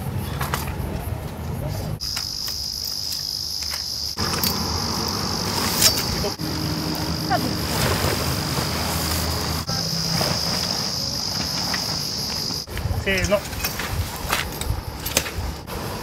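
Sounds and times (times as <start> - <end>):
insects trilling: 0.0 - 16.0
rustling: 2.0 - 15.6.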